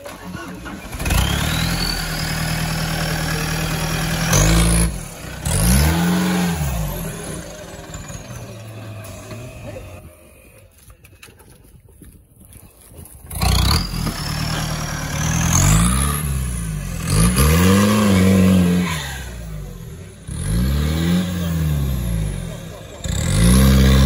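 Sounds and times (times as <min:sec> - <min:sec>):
engine revving hard: 0:00.6 - 0:10.1, 0:13.3 - 0:24.0.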